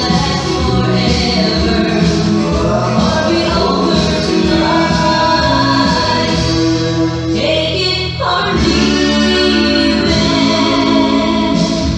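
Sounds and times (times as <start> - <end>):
song with singing and band: 0.0 - 11.9.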